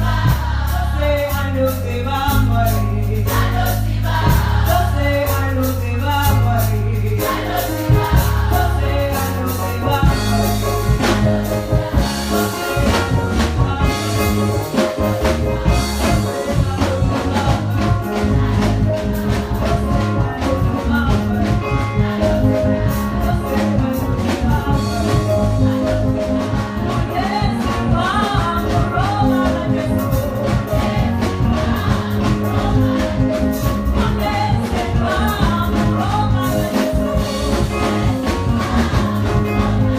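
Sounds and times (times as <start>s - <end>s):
bass line: 0.0s - 39.9s
choir singing gospel: 0.0s - 39.9s.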